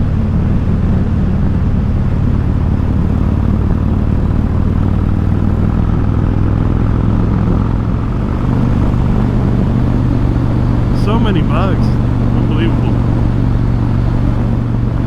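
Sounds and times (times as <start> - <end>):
motorcycle engine rumbling: 1.5 - 15.0.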